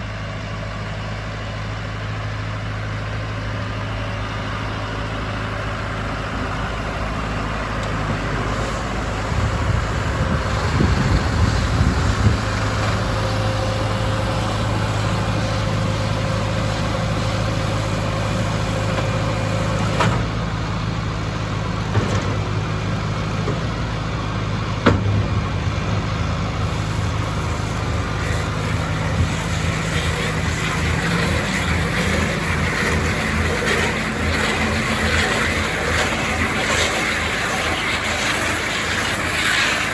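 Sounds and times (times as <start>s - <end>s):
tractor engine running: 0.0s - 39.9s
baler working: 5.1s - 39.9s.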